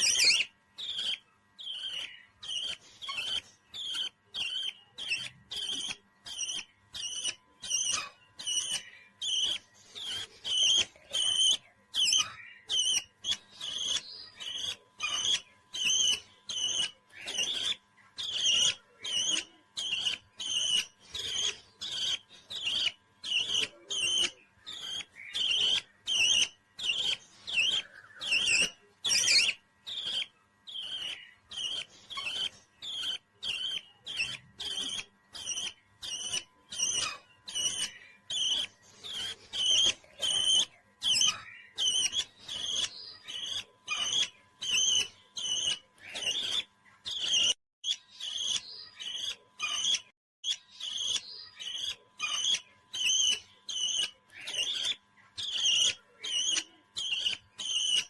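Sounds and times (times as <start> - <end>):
parrot chirping: 0.0 - 58.0.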